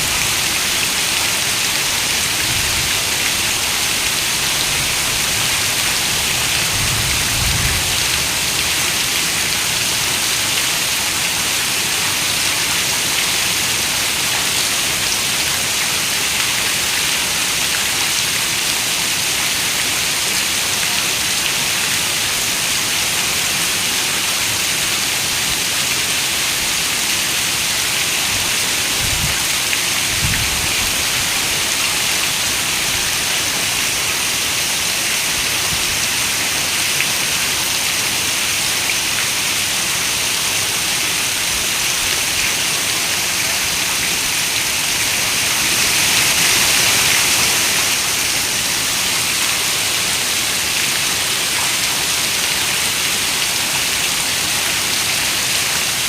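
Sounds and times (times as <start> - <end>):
dense rain hiss: 0.0 - 56.0.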